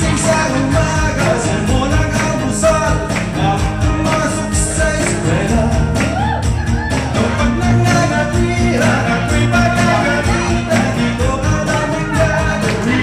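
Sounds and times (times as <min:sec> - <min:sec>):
band music with singing: 0:00.0 - 0:13.0
steady drum beat: 0:00.0 - 0:13.0.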